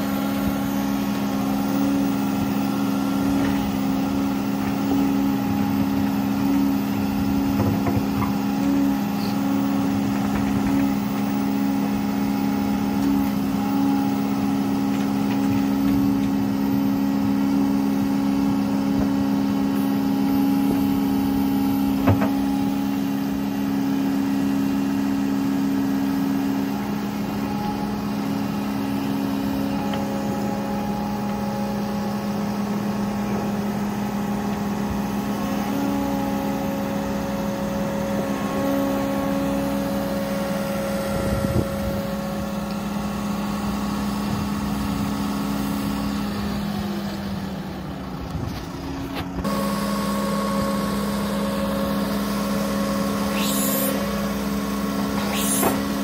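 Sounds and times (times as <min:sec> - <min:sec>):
diesel excavator engine running: 0:00.0 - 0:56.0.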